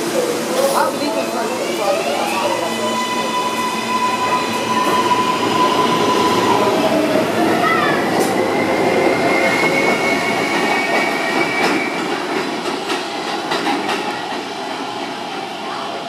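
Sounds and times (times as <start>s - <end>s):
train running noise: 0.0s - 16.0s
subway train wheel squeal: 0.4s - 16.0s.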